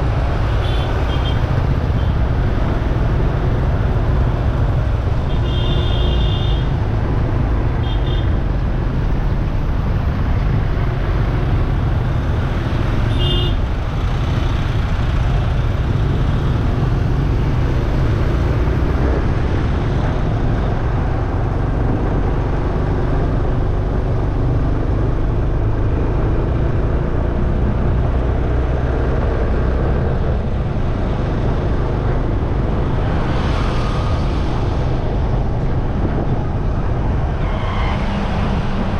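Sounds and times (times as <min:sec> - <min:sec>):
road traffic rumble: 0:00.0 - 0:38.9
wind: 0:00.0 - 0:38.9.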